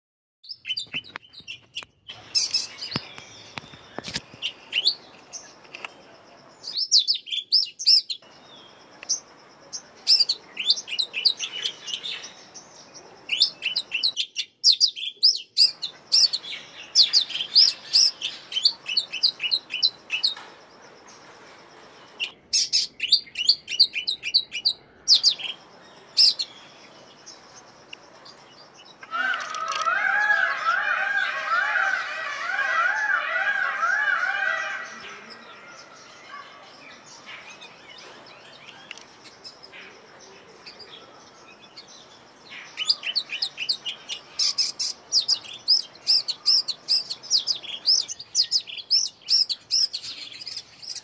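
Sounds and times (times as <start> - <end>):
small birds chirping: 0.4 - 51.0.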